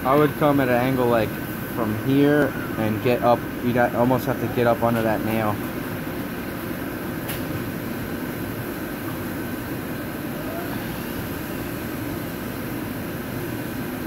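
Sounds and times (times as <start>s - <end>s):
machine shop drone: 0.0s - 14.0s.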